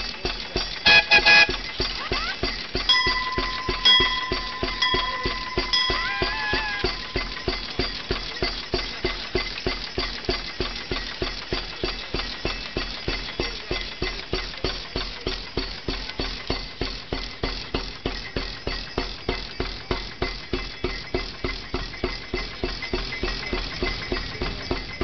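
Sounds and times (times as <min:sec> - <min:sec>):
flywheel gas engine running: 0:00.0 - 0:25.0.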